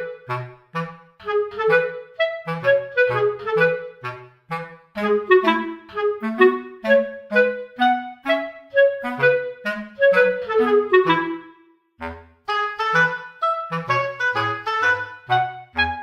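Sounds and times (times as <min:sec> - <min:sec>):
light bouncy background music: 0:00.0 - 0:16.0.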